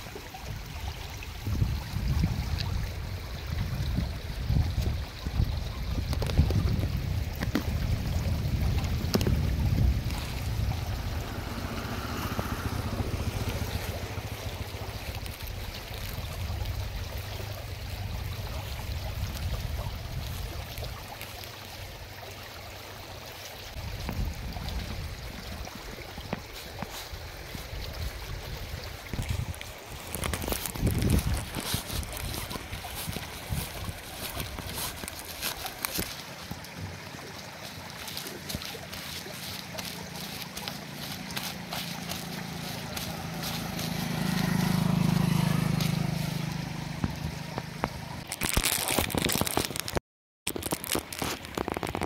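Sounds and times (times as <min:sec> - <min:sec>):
water rushing through channel: 0:00.0 - 0:52.0
wind rumble on microphone: 0:00.1 - 0:21.4, 0:23.7 - 0:50.0.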